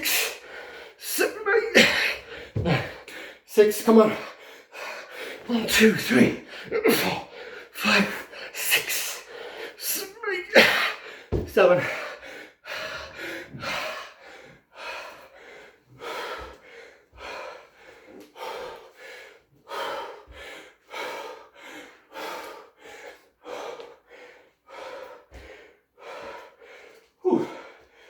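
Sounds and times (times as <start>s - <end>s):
man panting hard: 0.0s - 28.0s.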